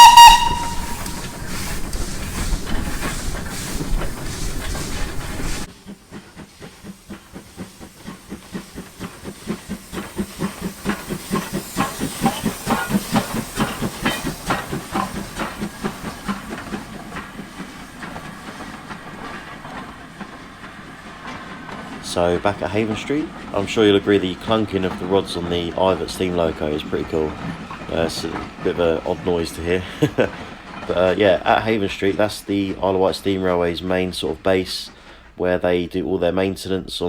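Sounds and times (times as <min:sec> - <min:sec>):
steam hiss: 0:00.0 - 0:33.6
steam locomotive chugging: 0:00.0 - 0:37.0.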